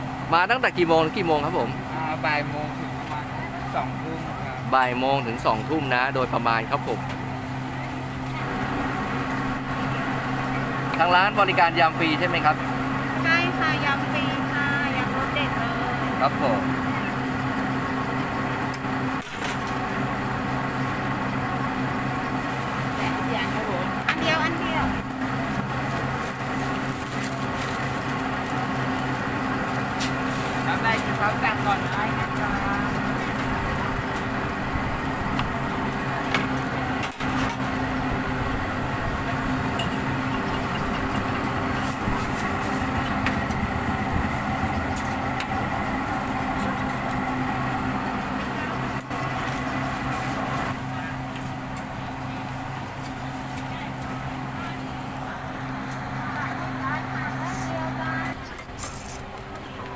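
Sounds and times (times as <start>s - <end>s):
engine-like drone: 0.0s - 59.9s
machine hum: 0.0s - 59.9s.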